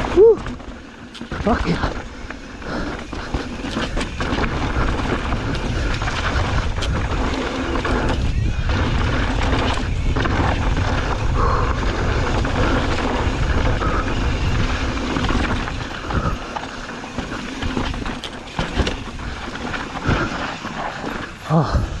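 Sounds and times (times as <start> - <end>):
bike knocking and rattling: 0.0 - 22.0
wind and tyre rolling noise: 0.0 - 22.0.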